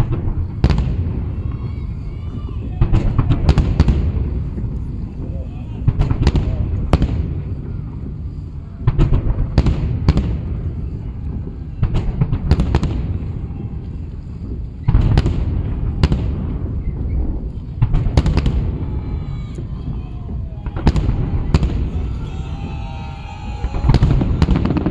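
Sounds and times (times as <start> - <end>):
fireworks bursting with sharp bangs: 0.0 - 24.9
low rumble of distant bursts: 0.0 - 24.9.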